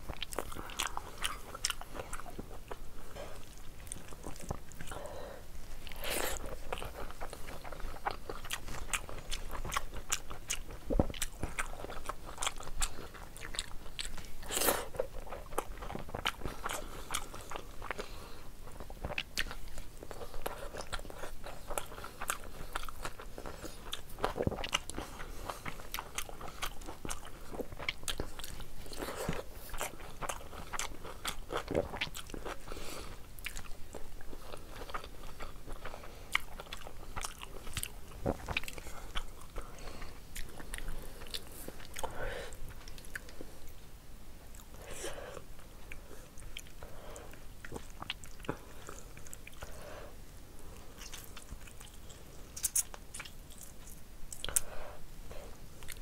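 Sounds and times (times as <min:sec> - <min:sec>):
chewing and wet mouth sounds: 0:00.0 - 0:43.8, 0:44.4 - 0:49.9, 0:50.7 - 0:56.0.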